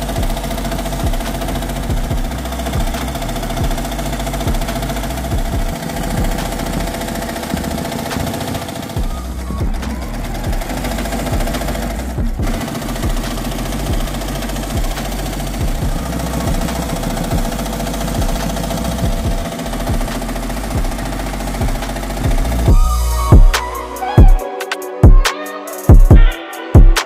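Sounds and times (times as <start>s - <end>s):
embroidery machine stitching: 0.0s - 22.7s.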